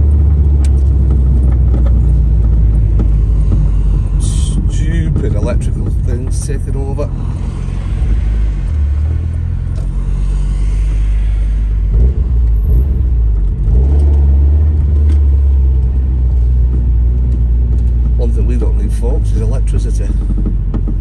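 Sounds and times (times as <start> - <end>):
car engine droning at low revs: 0.0 - 21.0.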